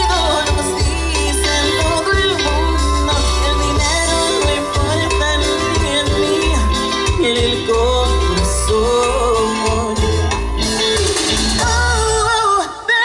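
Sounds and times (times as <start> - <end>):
pulsing bass line: 0.0 - 12.5
live band playing: 0.0 - 13.0.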